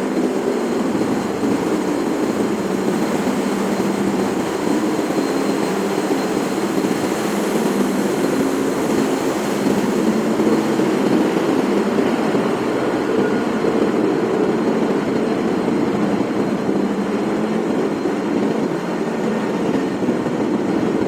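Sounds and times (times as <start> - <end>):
high whine: 0.0 - 21.0.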